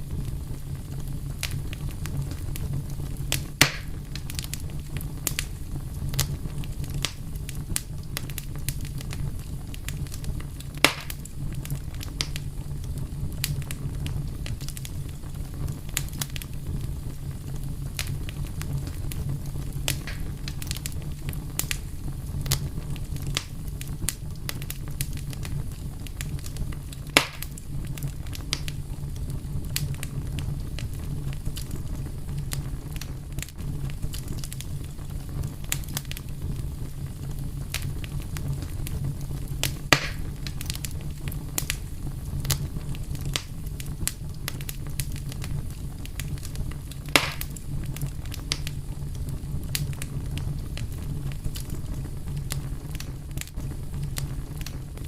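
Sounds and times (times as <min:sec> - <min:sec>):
fire crackling: 0:00.0 - 0:55.0
loud fire pops: 0:00.0 - 0:55.0.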